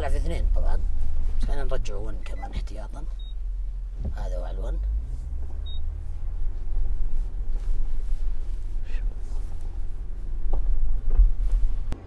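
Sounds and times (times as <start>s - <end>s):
engine low rumble from inside car: 0.0s - 12.0s.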